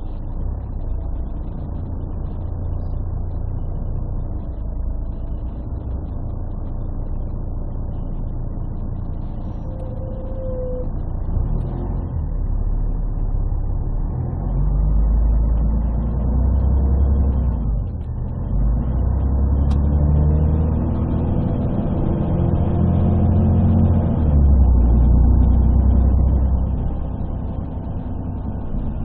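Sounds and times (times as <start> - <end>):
bus diesel engine: 0.0 - 29.0.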